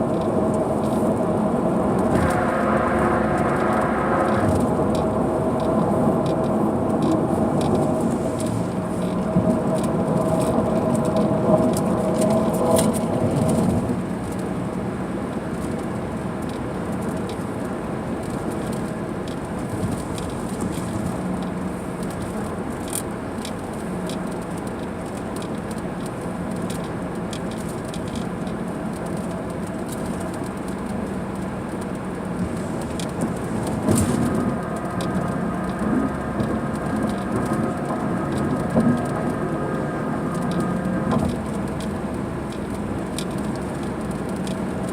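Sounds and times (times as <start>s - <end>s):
rain pattering on car roof: 0.0s - 44.9s
road noise: 0.0s - 44.9s
raindrop clicks: 3.0s - 14.5s, 18.2s - 44.9s.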